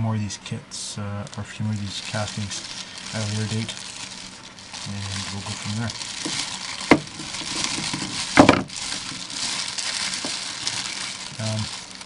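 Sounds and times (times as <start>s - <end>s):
crinkling handling noise: 1.2s - 12.0s.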